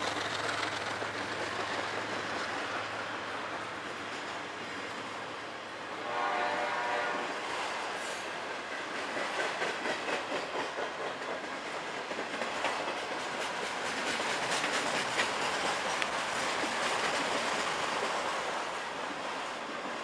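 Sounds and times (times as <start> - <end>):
wheels clicking over rail joints: 0.0 - 5.5, 8.2 - 20.0
freight train wheels rumbling: 0.0 - 20.0.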